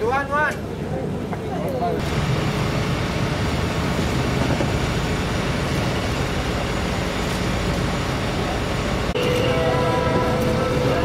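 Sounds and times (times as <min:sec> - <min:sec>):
boat engine drone: 0:02.0 - 0:11.0.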